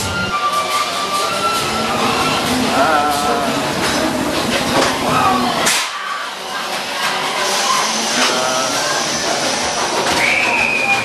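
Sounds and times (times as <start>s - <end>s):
ride car running on track: 0.0s - 11.0s.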